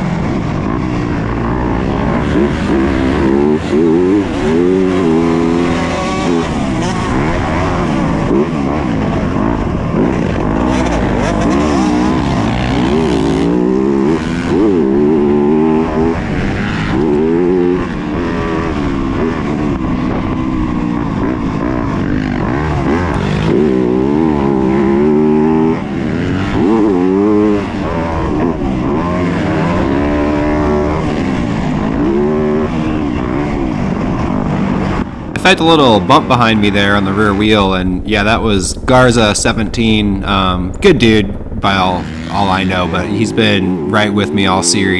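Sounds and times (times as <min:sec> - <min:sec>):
motocross engine revving: 0:00.9 - 0:18.0, 0:22.2 - 0:32.6, 0:35.4 - 0:44.9.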